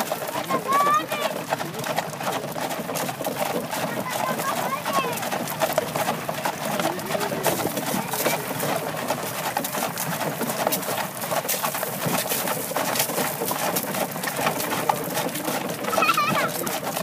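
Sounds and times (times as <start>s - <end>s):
horse-drawn buggy clattering: 0.0s - 17.0s.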